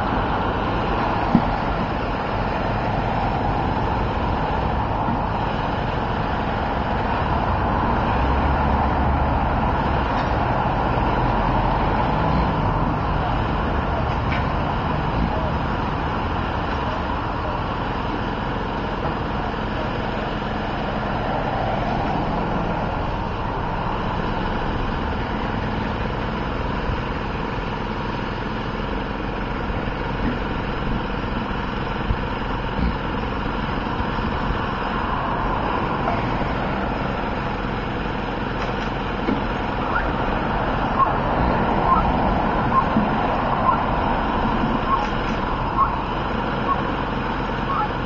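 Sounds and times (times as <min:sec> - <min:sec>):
vehicle engine idling: 0:00.0 - 0:48.0.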